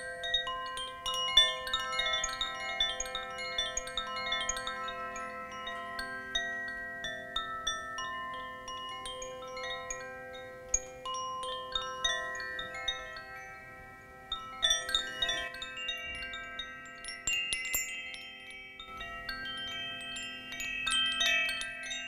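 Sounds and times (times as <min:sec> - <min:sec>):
bamboo wind chime ringing: 0:00.0 - 0:22.0
small metal wind chime: 0:00.0 - 0:22.0.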